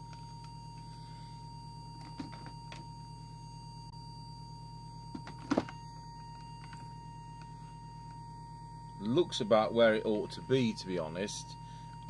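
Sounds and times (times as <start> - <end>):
low buzzing hum: 0.0 - 12.0
steady high tone: 0.0 - 12.0.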